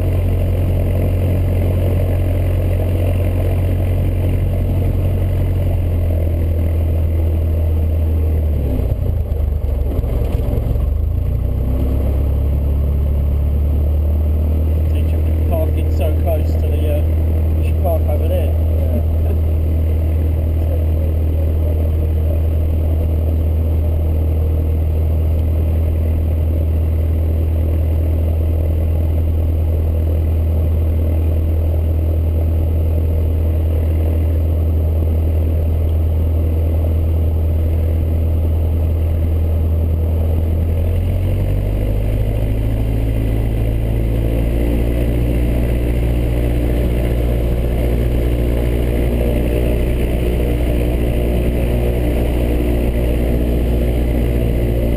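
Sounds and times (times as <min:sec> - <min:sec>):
propeller plane engine droning: 0:00.0 - 0:54.9.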